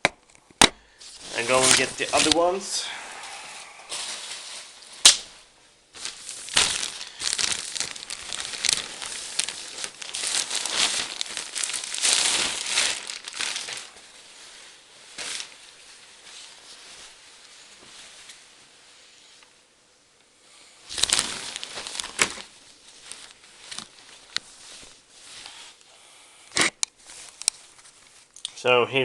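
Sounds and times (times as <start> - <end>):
plastic packaging crinkling: 0.2 - 2.9, 3.9 - 18.2, 20.8 - 25.8, 26.6 - 28.5.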